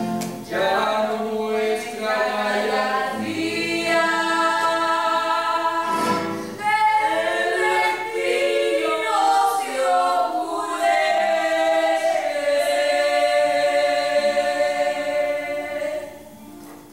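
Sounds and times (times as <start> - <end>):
choir singing in harmony: 0.5 - 16.5.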